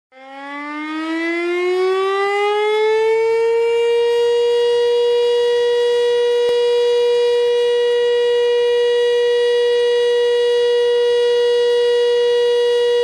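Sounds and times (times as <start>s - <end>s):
fire siren winding up: 0.1s - 13.0s.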